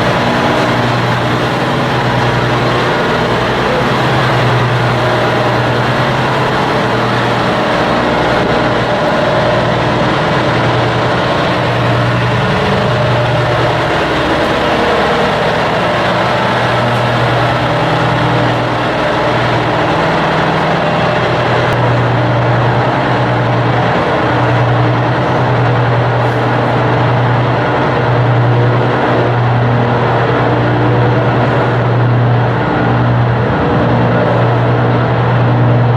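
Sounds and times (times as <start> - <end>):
ship diesel engine droning: 0.0 - 35.9.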